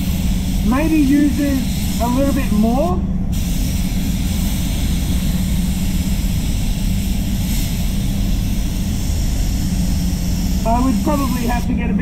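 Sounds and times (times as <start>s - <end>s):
spray gun hissing: 0.0s - 11.9s
rushing air with low hum: 0.0s - 12.0s.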